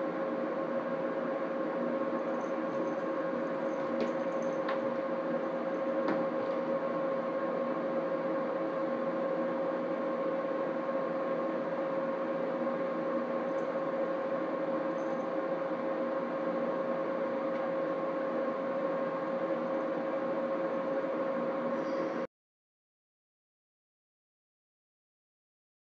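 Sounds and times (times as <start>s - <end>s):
steady machine hum: 0.0s - 22.3s.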